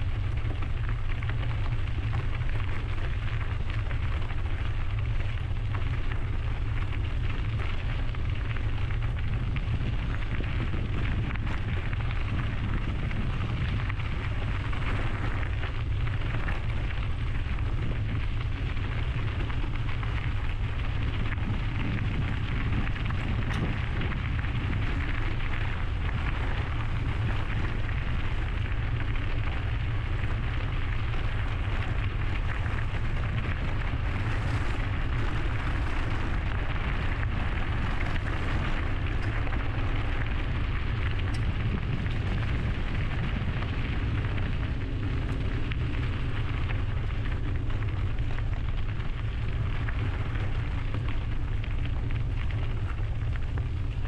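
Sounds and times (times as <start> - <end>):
bicycle riding rushing noise: 0.0 - 54.0
wind buffeting microphone: 0.0 - 54.0.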